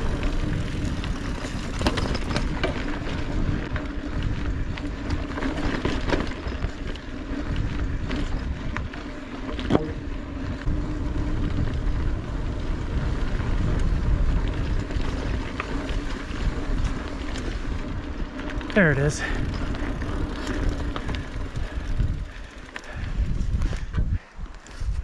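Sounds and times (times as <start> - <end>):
bike clicks and rattles: 0.0 - 25.0
wind buffeting microphone: 0.0 - 25.0.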